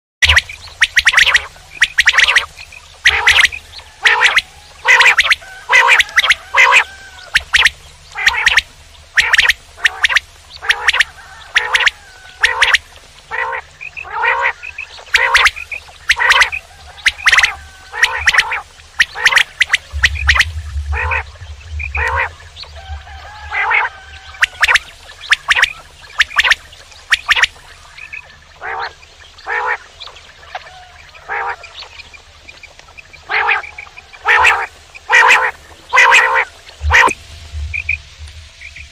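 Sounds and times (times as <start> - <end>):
quail calling: 0.2 - 38.0
low steady hum: 0.2 - 38.9.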